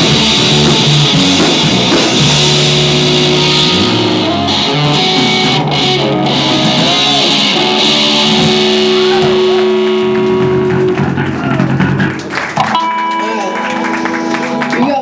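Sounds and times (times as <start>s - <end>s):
distorted electric guitars: 0.0s - 15.0s
live rock band playing: 0.0s - 15.0s.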